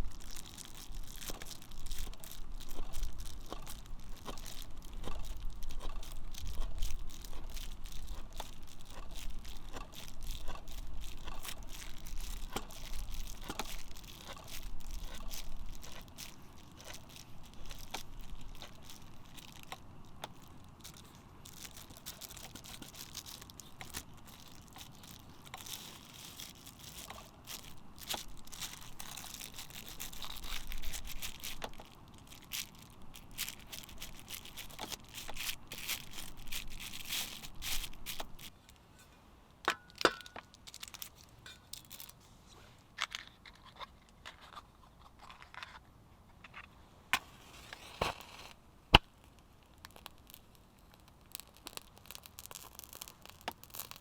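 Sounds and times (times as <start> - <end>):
wood fire crackling and popping: 0.0 - 38.6, 47.1 - 54.0.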